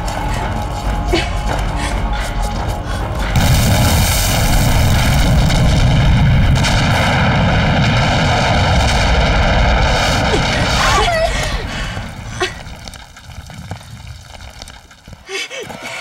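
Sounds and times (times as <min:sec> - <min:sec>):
explosion roar with low rumble: 0:00.0 - 0:14.7.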